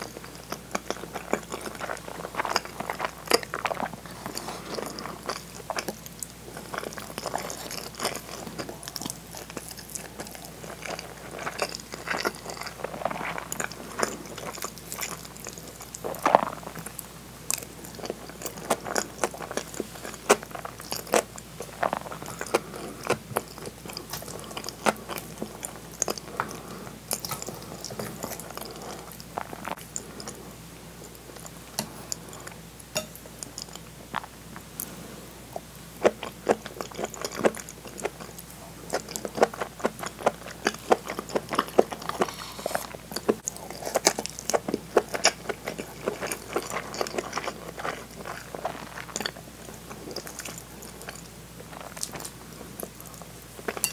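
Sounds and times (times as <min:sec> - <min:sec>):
close chewing mouth sounds: 0:00.0 - 0:53.9.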